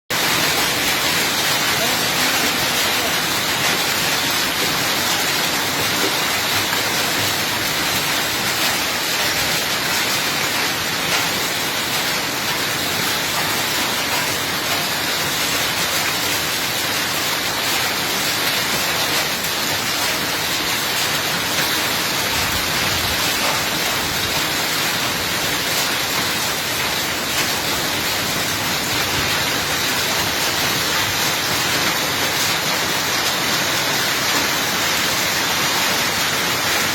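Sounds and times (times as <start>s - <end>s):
heavy rain and hail: 0.1s - 36.9s.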